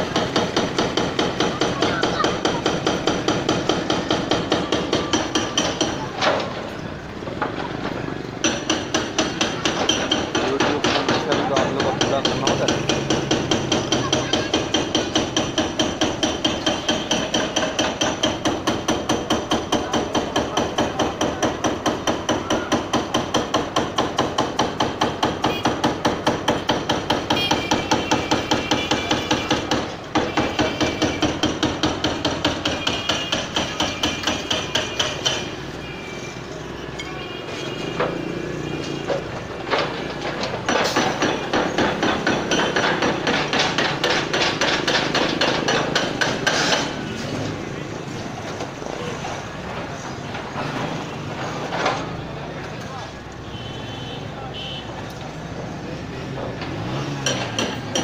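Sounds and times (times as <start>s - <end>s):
hydraulic breaker pounding concrete: 0.0s - 35.8s, 38.0s - 52.7s, 56.2s - 58.0s.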